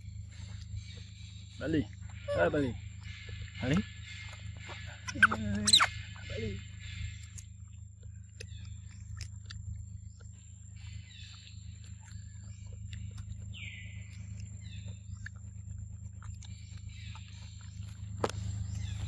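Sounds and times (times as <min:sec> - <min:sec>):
low hum: 0:00.0 - 0:19.0
monkeys chewing fruit: 0:00.0 - 0:19.0.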